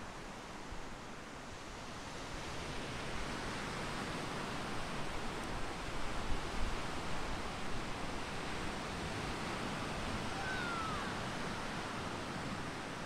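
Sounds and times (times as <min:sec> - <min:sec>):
ocean surf breaking on beach: 0:00.0 - 0:13.0.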